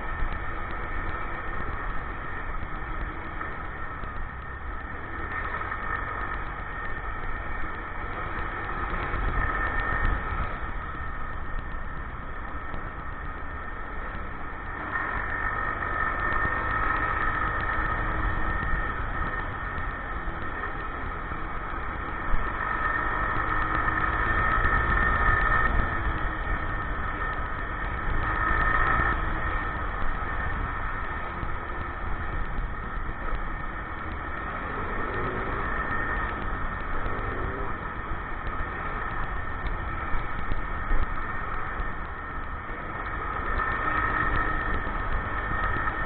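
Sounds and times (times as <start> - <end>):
motorcycle engine revving: 0.0 - 46.0
wind rumble on microphone: 0.0 - 46.0.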